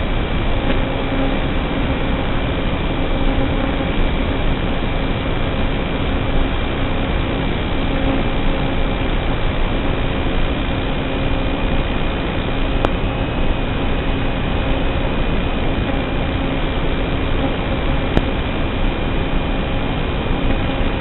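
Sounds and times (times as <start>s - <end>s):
small motor humming: 0.0s - 21.0s.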